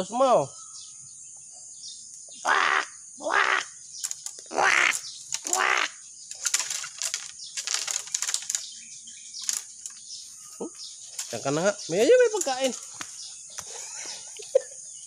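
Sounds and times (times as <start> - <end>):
insect buzzing: 0.7 - 15.0
bird harsh calls: 1.9 - 15.0
bird raspy chattering: 2.3 - 15.0.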